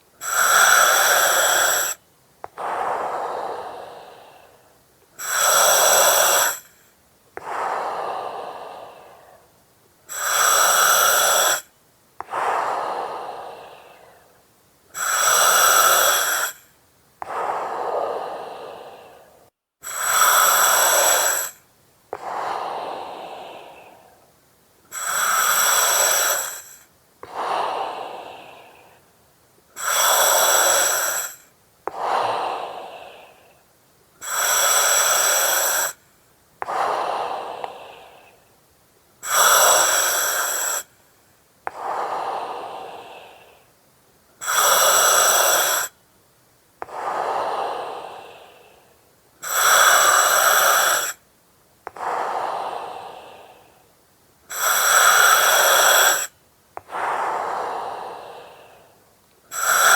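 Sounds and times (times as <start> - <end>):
breathing through oxygen mask: 0.0 - 24.2, 24.9 - 29.1, 29.8 - 33.6, 34.2 - 36.0, 36.6 - 38.4, 39.2 - 41.0, 41.7 - 43.8, 44.4 - 45.9, 46.8 - 51.2, 51.9 - 53.9, 54.5 - 59.9.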